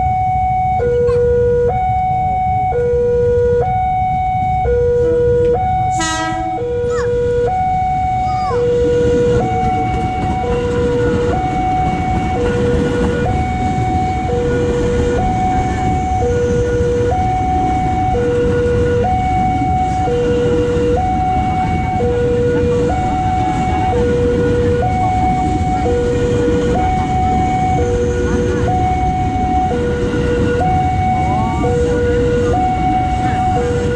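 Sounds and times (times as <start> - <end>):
electric train running past: 0.0 - 33.9
level-crossing two-tone alarm: 0.0 - 33.9.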